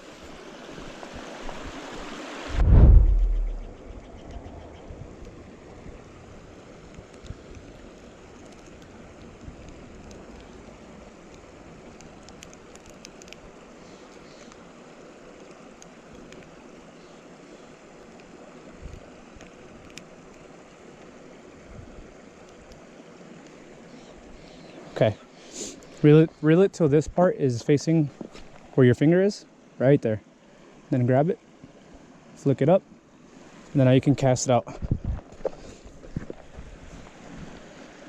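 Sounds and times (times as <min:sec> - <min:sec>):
lake water along shore: 0:00.0 - 0:38.0
wind: 0:00.0 - 0:38.0.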